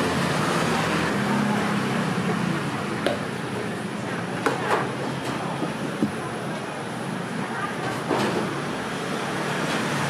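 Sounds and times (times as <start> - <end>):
steady background noise: 0.0 - 10.0
faint murmured voices: 0.7 - 9.5.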